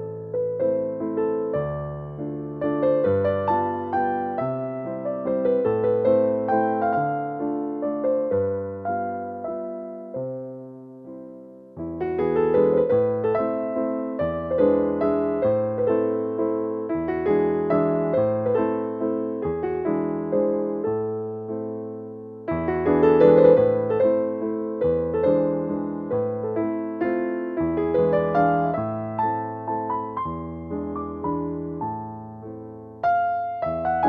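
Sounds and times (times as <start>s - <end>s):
gentle piano tune: 0.0s - 34.0s.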